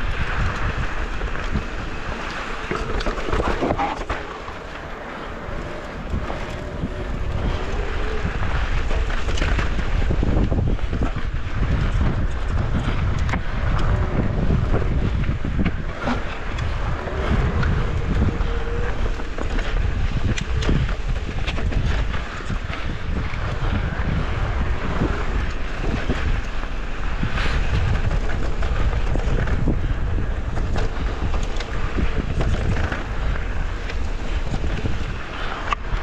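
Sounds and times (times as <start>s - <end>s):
tyres rolling on dirt trail: 0.0s - 36.0s
wind buffeting microphone: 0.0s - 36.0s.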